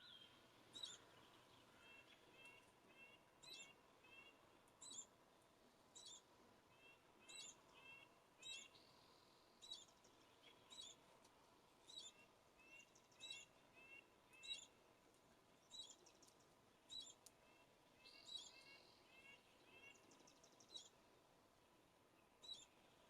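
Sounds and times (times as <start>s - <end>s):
faint birdsong: 0.0s - 23.0s.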